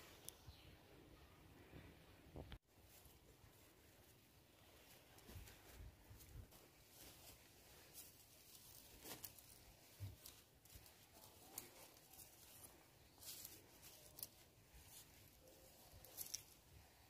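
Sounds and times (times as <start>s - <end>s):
dry twigs rustling and clicking: 2.8s - 17.0s.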